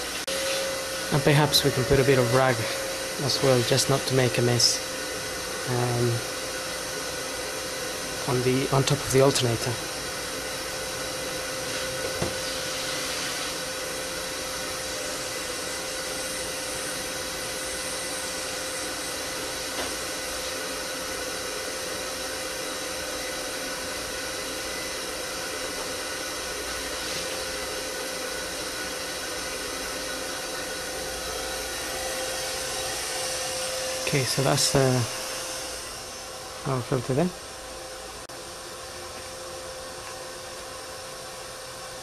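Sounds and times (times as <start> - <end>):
whooshing fan hiss: 0.0 - 42.0.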